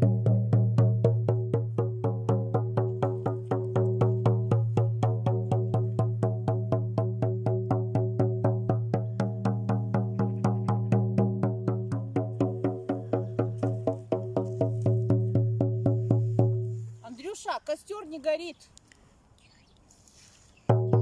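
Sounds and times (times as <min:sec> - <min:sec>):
fast even drumbeat: 0:00.0 - 0:16.7, 0:20.7 - 0:21.0.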